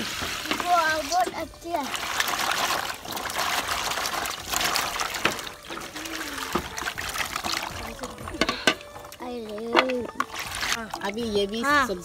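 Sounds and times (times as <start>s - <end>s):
water pouring into plastic basin: 0.0s - 11.3s
water sloshing: 0.0s - 12.0s.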